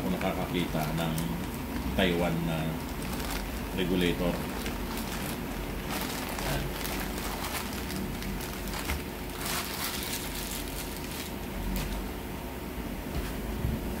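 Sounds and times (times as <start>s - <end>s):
steady low hum: 0.0s - 14.0s
plastic bag rustling and crinkling: 0.1s - 12.1s.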